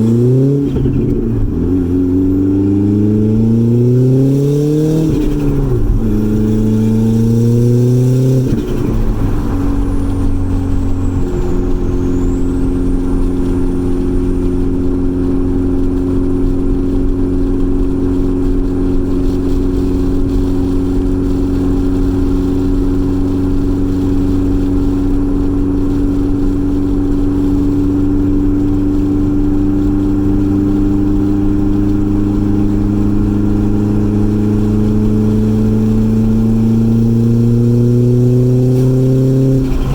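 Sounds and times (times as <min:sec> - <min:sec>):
car engine revving and droning: 0:00.0 - 0:39.9.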